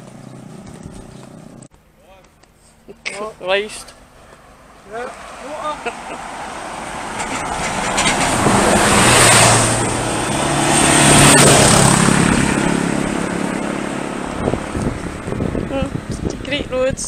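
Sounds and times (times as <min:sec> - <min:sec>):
vehicles passing close: 0:00.0 - 0:17.0.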